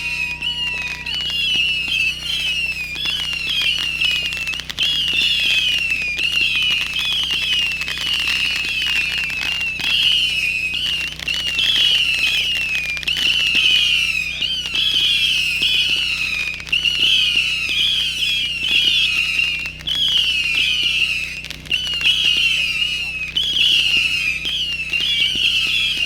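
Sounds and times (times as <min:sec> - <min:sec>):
firework pops and crackles: 0:00.0 - 0:26.0
whistling fireworks: 0:00.0 - 0:26.0.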